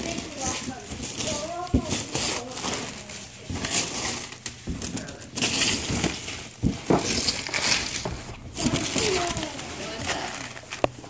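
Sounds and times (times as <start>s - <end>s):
paper bag crinkling and rustling: 0.0s - 11.0s.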